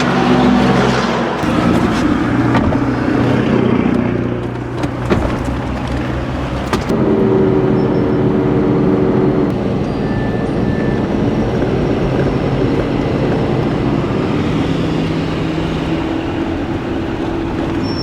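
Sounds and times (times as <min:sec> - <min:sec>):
road noise: 0:00.0 - 0:18.0
vehicle engine running: 0:00.0 - 0:18.0.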